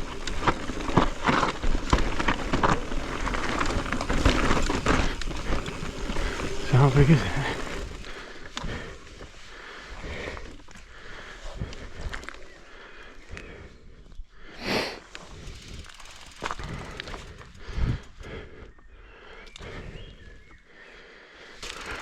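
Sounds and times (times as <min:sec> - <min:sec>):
bike clicks and rattles: 0:00.0 - 0:13.7, 0:15.0 - 0:18.7, 0:21.4 - 0:22.0
bike tyres on dirt: 0:00.0 - 0:20.6, 0:21.4 - 0:22.0.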